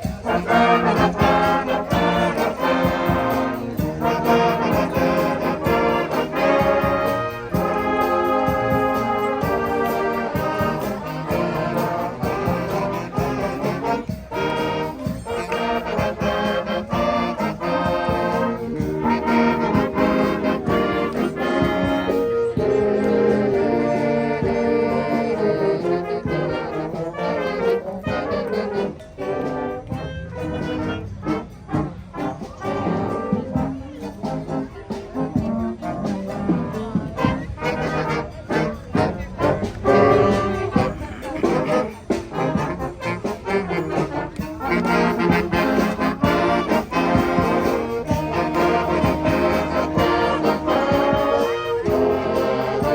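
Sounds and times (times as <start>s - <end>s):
brass band music: 0.0s - 52.9s
steady beat: 0.0s - 52.9s.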